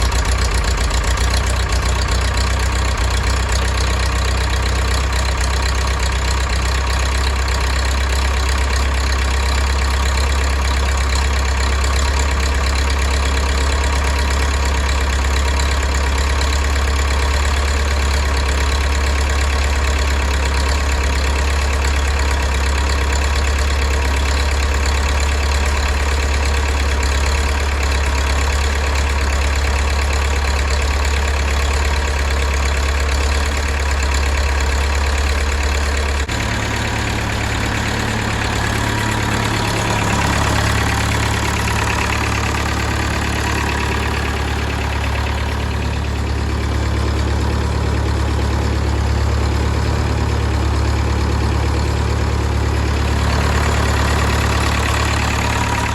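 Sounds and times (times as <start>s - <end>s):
diesel tractor engine idling: 0.0s - 55.9s.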